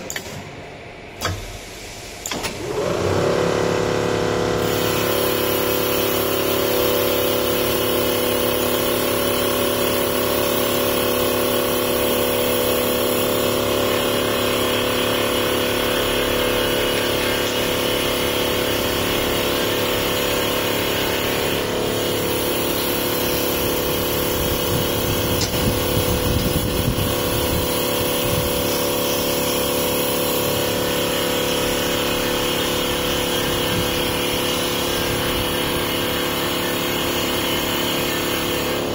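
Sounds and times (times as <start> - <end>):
wood lathe machine hum: 2.7 - 38.9.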